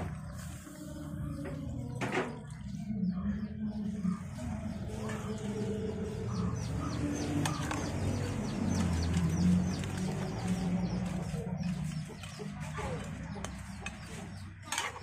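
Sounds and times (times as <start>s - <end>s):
chicks chirping: 2.6s - 15.0s.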